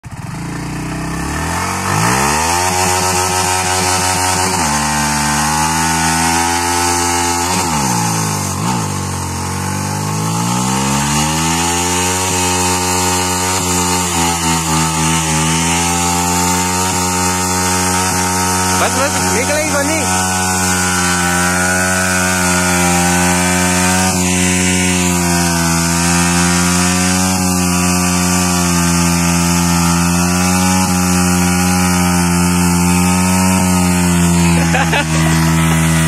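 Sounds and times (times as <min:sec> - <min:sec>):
motorcycle engine revving high: 0:00.0 - 0:36.0.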